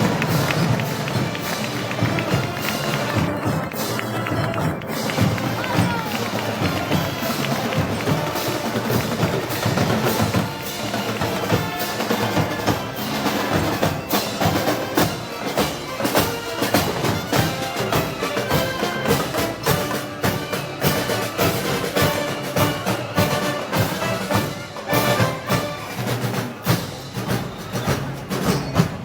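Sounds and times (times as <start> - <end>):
drum and percussion strikes: 0.0 - 29.0
festival band music: 0.0 - 29.0.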